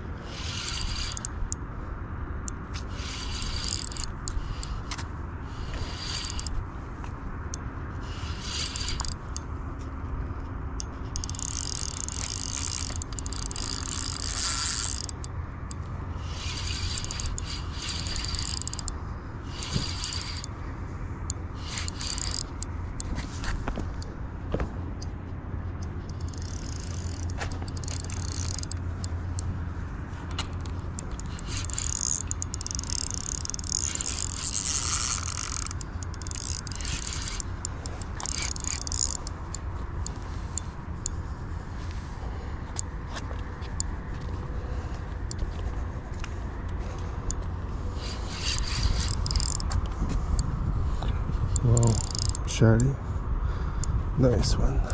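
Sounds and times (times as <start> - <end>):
fishing reel gears whirring: 0.0 - 24.6, 25.8 - 42.9, 43.6 - 52.9
low steady rumble: 0.0 - 54.9.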